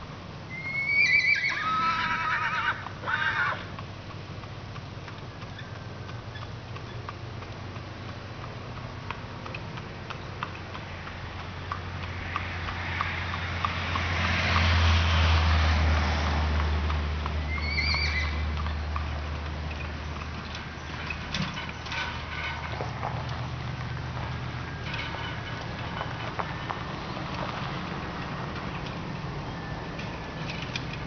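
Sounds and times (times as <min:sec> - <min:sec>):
horse hooves on asphalt: 0:00.0 - 0:31.0
truck engine and tyre noise: 0:00.0 - 0:31.0.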